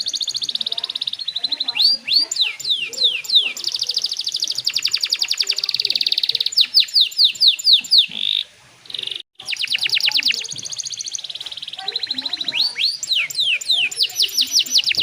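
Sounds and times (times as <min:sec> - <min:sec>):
canary singing trills: 0:00.0 - 0:15.0.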